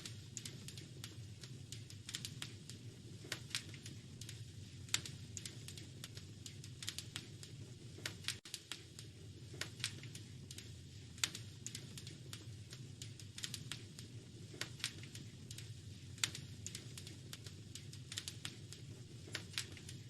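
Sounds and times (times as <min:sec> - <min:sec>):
steady low rumble: 0:00.0 - 0:20.0
wood fire crackling: 0:00.0 - 0:20.0.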